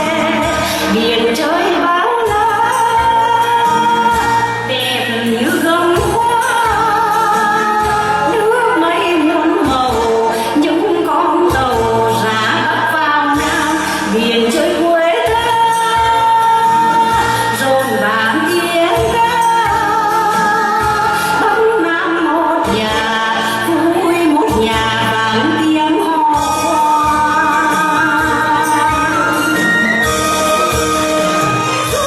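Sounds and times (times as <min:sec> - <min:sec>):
band with bass line: 0:00.0 - 0:32.0
person singing with vibrato: 0:00.0 - 0:32.0.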